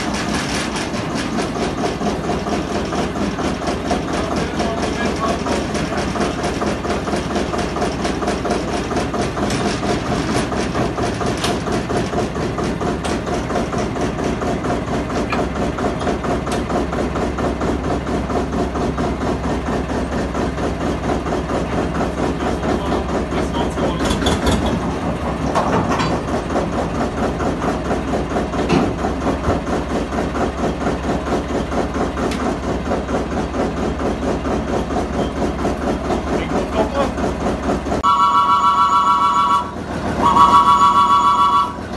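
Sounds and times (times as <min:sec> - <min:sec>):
locomotive engine idling: 0:00.0 - 0:41.9.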